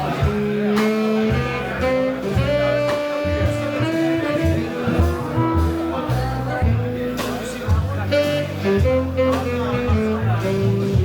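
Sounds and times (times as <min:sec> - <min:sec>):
drum and cymbal hits: 0:00.0 - 0:11.0
live jazz band playing: 0:00.0 - 0:11.0.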